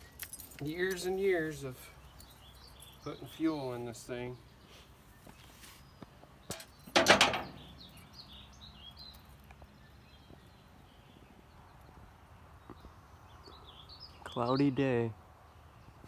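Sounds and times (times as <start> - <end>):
outdoor background noise: 0.0 - 16.0
small birds chirping: 0.0 - 16.0.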